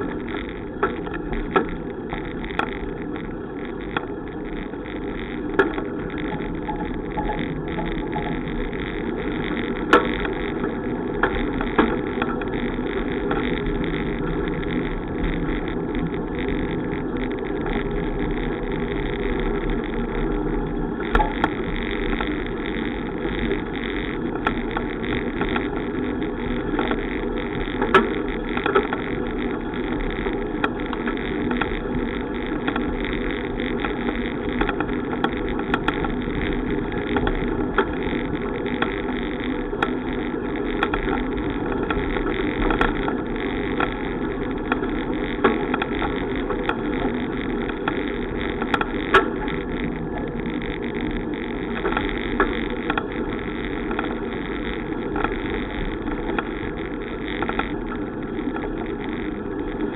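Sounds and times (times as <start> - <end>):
bicycle riding rumble: 0.0 - 59.9
sharp clicks and knocks: 0.0 - 59.9.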